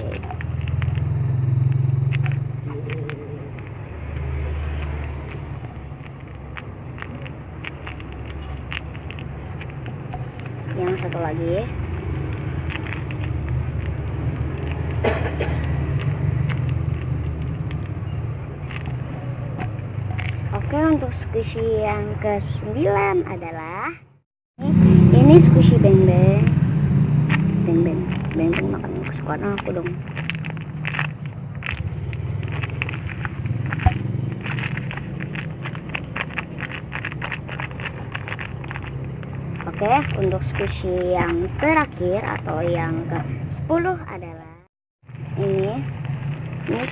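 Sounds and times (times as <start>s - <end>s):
squishy toy crackly rustling: 0.0s - 21.6s, 27.3s - 42.7s, 45.1s - 46.9s.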